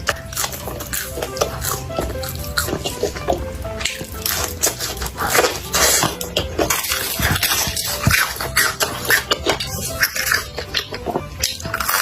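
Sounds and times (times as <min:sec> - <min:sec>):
background music: 0:00.0 - 0:12.0
crisp bites and crunchy chewing: 0:00.0 - 0:12.0.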